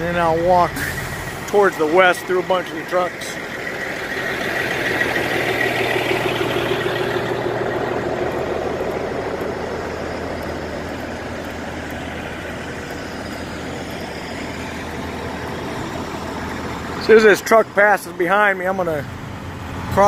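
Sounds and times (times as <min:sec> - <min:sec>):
loud truck engine: 0:00.0 - 0:20.0
trucks idling: 0:00.0 - 0:20.0.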